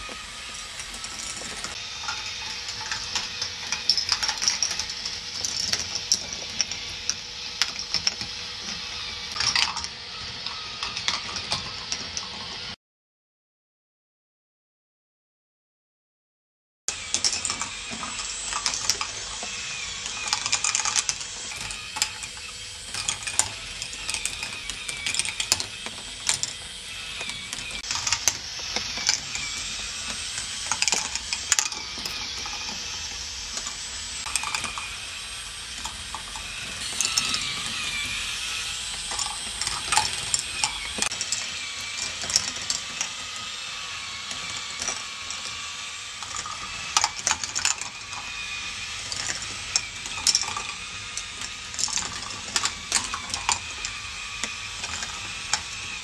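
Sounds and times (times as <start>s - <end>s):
plastic balls clattering: 0.0s - 12.5s, 16.9s - 56.0s
lift mechanisms whirring: 0.0s - 12.8s, 16.9s - 56.0s.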